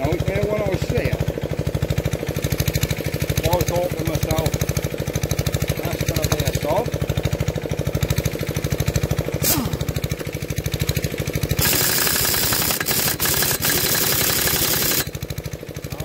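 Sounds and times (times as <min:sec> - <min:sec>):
air compressor pulsing: 0:00.0 - 0:16.0
air impact wrench hammering: 0:01.7 - 0:16.0.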